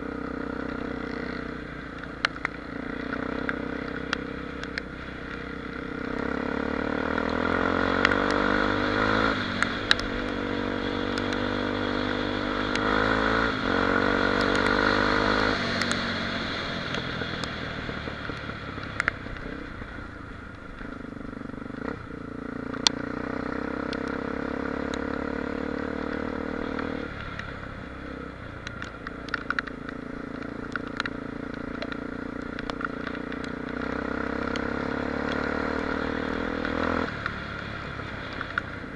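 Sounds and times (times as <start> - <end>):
motorcycle engine riding: 0.0 - 38.9
sharp ticks and clatter: 0.6 - 23.2, 24.8 - 38.9.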